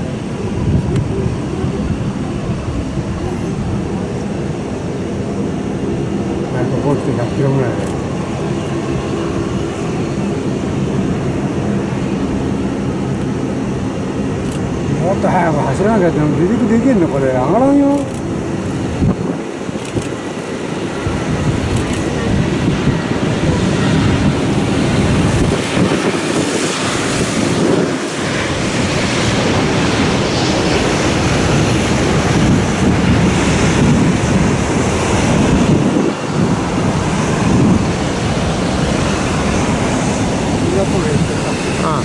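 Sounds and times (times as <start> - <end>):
jet engines roaring: 0.0 - 42.0
wind on microphone: 0.0 - 42.0.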